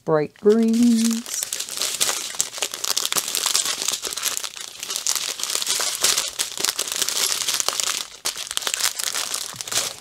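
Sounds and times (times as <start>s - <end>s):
plastic bags crinkling: 0.5s - 10.0s.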